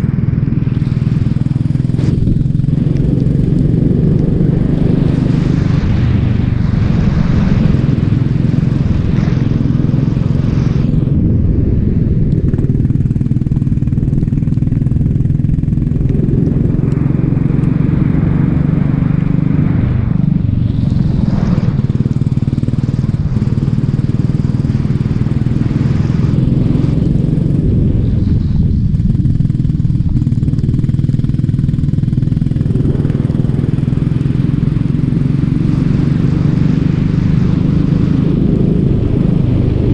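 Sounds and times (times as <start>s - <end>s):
racing kart engine running: 0.0s - 39.9s.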